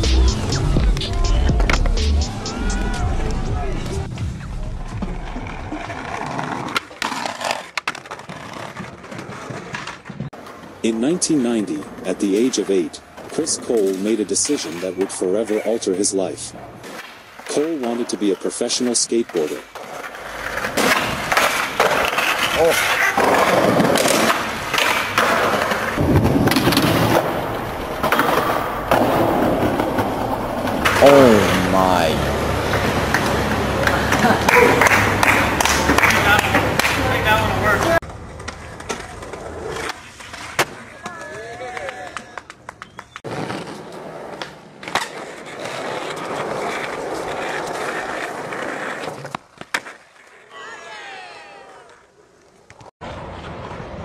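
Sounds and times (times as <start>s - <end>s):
skateboard wheels rolling on concrete: 0.0s - 54.0s
skateboard clacking on ground: 5.1s - 50.4s.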